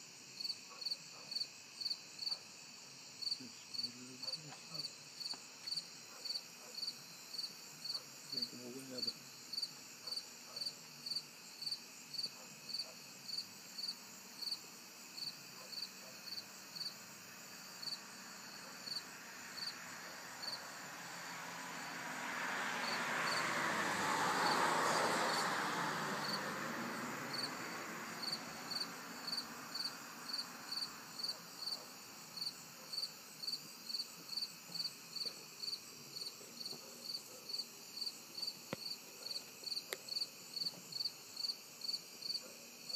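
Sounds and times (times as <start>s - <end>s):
cricket chirping: 0.0s - 42.9s.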